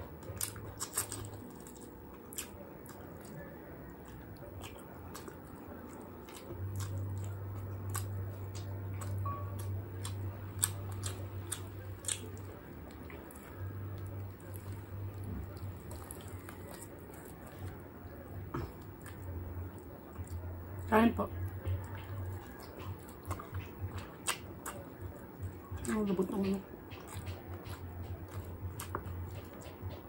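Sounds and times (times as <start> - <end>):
low steady hum: 0.0 - 30.0
person chewing: 0.0 - 30.0.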